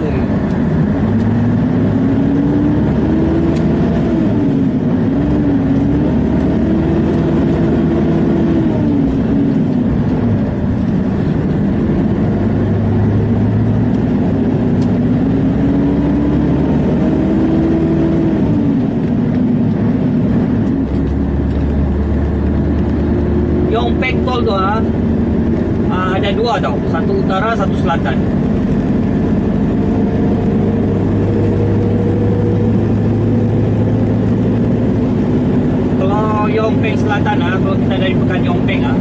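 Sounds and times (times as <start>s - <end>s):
truck diesel engine accelerating: 0.0s - 39.0s.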